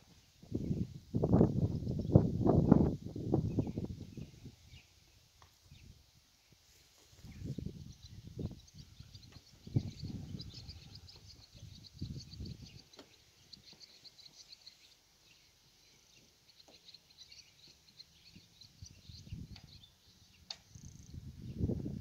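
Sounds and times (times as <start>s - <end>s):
birds chirping: 0.1s - 22.0s.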